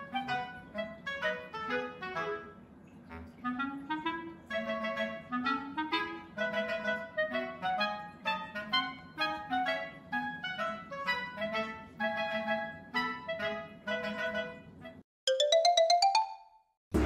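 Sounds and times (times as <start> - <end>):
woodwind melody with accompaniment: 0.0 - 16.5.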